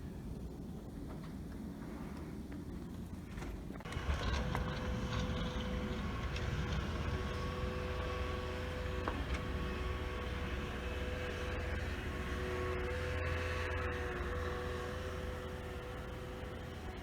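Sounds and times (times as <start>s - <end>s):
vehicle engine running: 2.8s - 17.0s.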